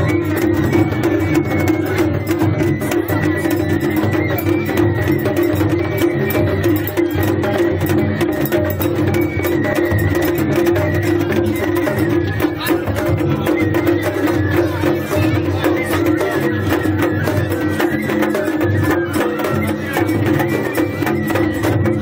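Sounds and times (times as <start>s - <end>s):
high flute melody: 0.0s - 22.0s
taiko drums beating: 0.0s - 22.0s.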